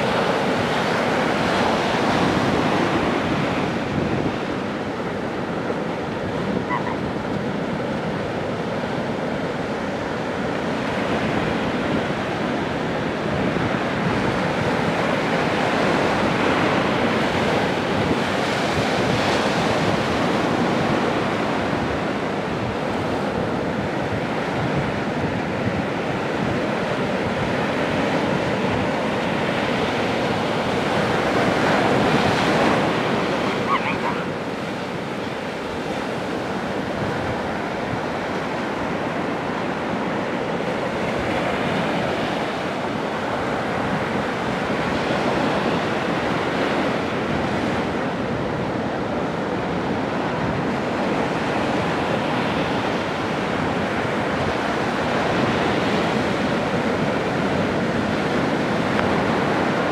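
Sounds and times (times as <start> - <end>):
surf breaking on beach: 0.0 - 59.9
wind on microphone: 0.0 - 59.9.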